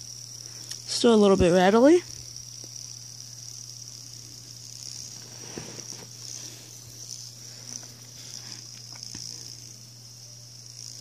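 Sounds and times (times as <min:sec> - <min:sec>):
fidget spinner whirring: 0:00.0 - 0:11.0.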